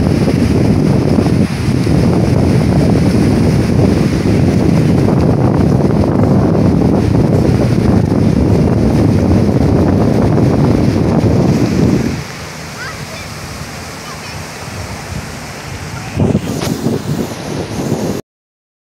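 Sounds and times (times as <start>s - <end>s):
waves washing onto beach: 0.0s - 18.2s
wind blowing across microphone: 0.0s - 18.2s.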